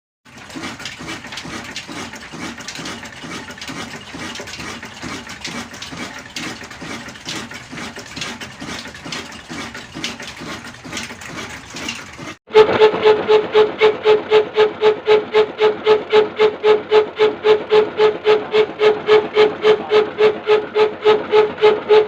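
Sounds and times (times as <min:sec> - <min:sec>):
diesel engine rhythmic beat: 0:00.3 - 0:22.0.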